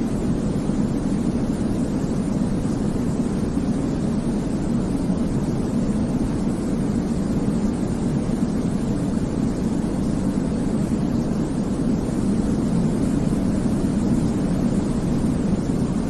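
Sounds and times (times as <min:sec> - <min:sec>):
low white noise rumble: 0:00.0 - 0:16.0.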